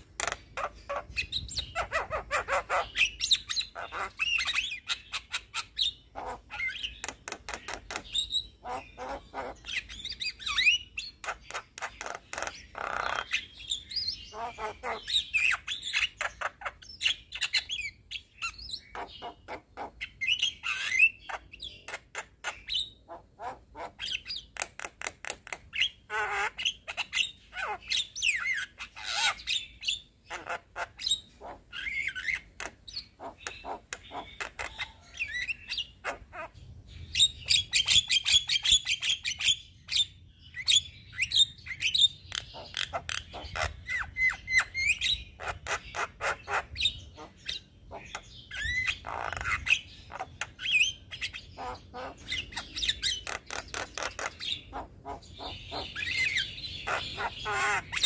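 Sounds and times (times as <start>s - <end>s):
myna bird singing and chattering: 0.0s - 58.0s.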